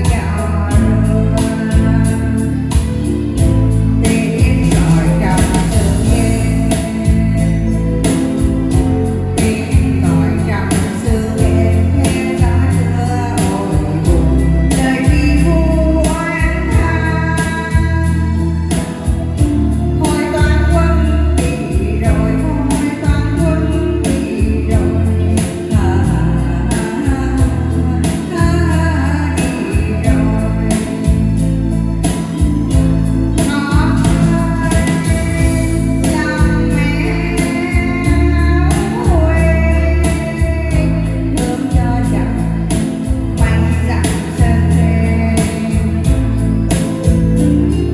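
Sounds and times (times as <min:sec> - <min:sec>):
bass and guitar accompaniment: 0:00.0 - 0:47.9
woman singing a ballad: 0:00.0 - 0:47.9.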